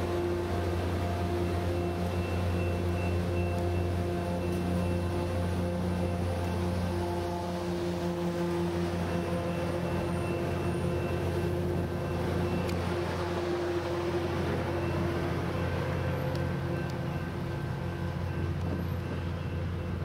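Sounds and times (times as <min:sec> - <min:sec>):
diesel train engine drone: 0:00.0 - 0:20.0
train rolling rumble: 0:00.0 - 0:20.0.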